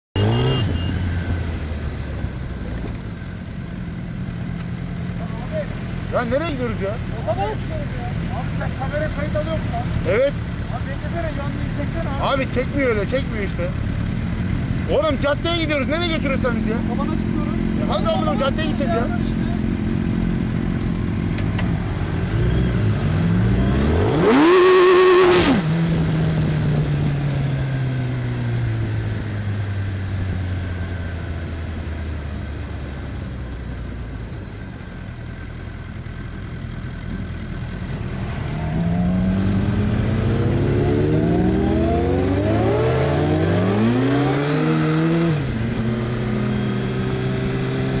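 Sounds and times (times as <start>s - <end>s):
motorcycle engine accelerating: 0.2s - 48.0s.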